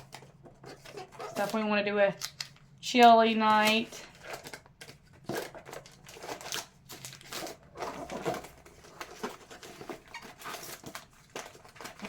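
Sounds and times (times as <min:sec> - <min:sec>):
packets crinkling and rustling: 0:00.0 - 0:12.0.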